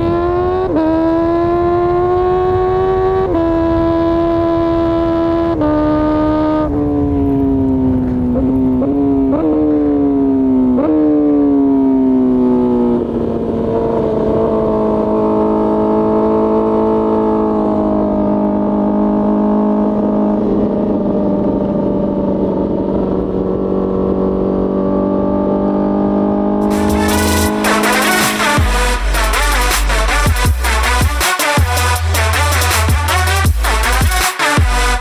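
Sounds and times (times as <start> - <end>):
motorcycle engine at high revs: 0.0 - 35.0.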